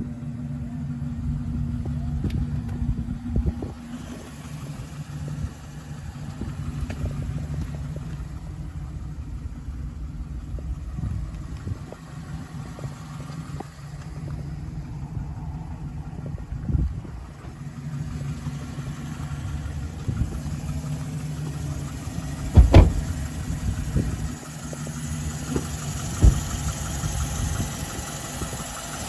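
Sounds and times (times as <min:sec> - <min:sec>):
pickup engine idling: 0:00.0 - 0:29.0.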